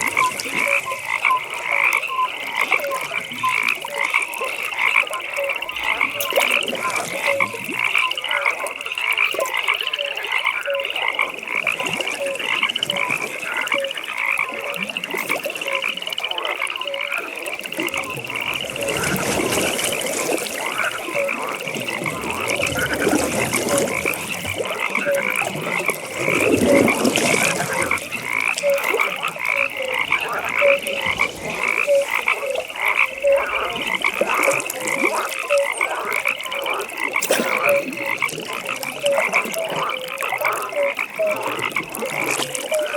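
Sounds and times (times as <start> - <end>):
high-pitched frog calls: 0.0 - 42.9
low frog croaking: 0.0 - 42.9.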